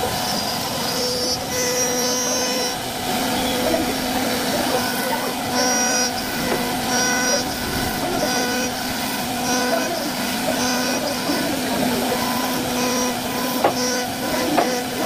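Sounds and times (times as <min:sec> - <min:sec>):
high whine: 0:00.0 - 0:15.0
wood-carving router running: 0:00.0 - 0:15.0.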